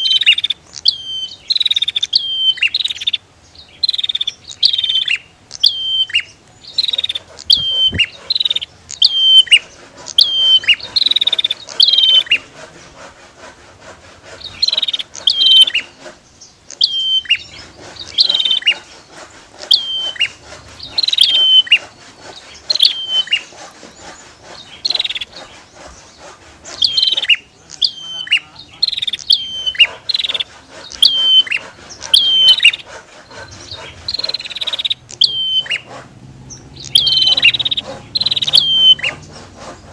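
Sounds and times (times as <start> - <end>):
bird chirping sharply: 0.0 - 12.5, 14.4 - 39.6.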